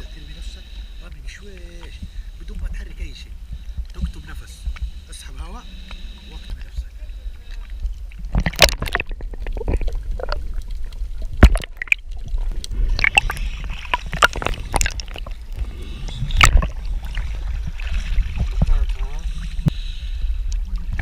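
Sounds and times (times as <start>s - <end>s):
sea water splashing: 0.0s - 21.0s
steady low rumble: 0.0s - 21.0s.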